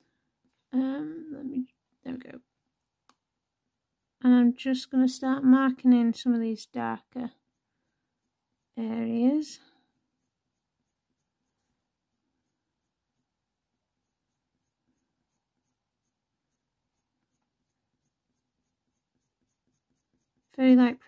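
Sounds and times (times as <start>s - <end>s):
coloured pencil scratching on paper: 3.7s - 21.0s.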